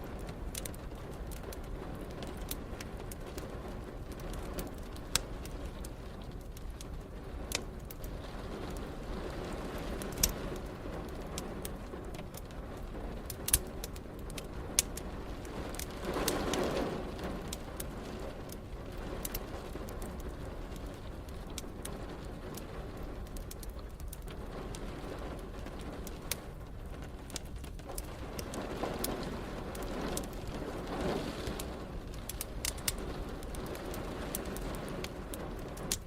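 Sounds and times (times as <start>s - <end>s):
rain: 0.0s - 36.0s
wood fire crackling: 0.0s - 36.0s.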